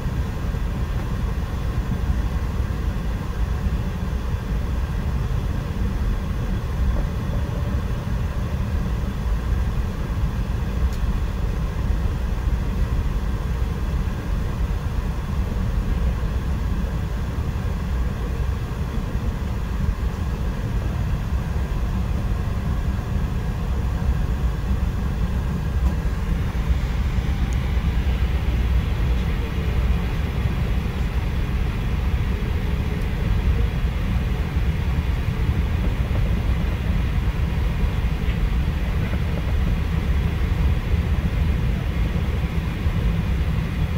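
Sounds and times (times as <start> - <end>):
train cabin low rumble: 0.0 - 43.9.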